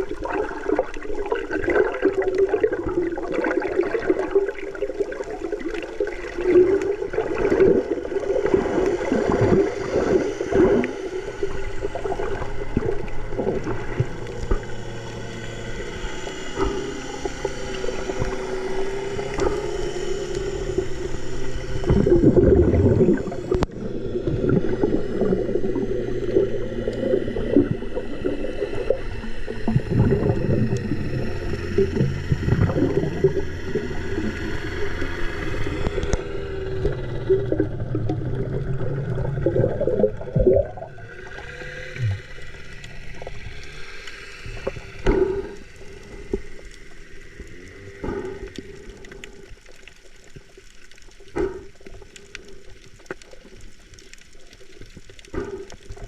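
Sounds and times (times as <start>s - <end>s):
motor hum: 0.0s - 56.0s
water sloshing and gurgling: 0.0s - 56.0s
water splashing: 0.0s - 56.0s.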